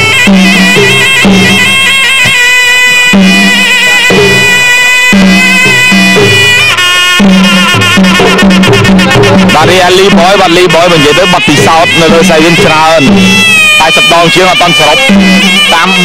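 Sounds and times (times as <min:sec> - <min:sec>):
drum strokes: 0:00.0 - 0:16.0
shrill reed pipe trilling melody: 0:00.0 - 0:16.0.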